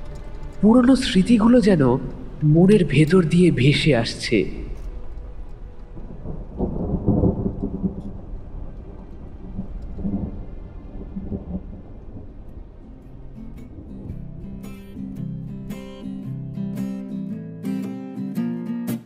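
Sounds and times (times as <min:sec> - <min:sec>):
steady rain: 0:00.0 - 0:16.4
thunder rumbling: 0:00.0 - 0:16.6.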